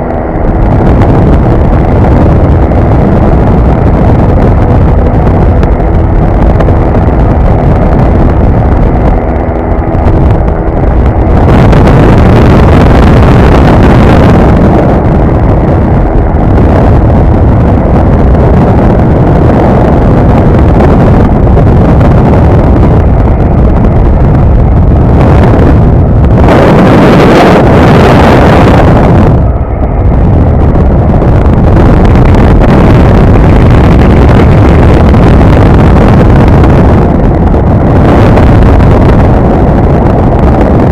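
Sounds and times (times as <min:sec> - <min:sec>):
aircraft engine and propeller: 0:00.0 - 0:40.9
wind rush on microphone: 0:00.0 - 0:40.9.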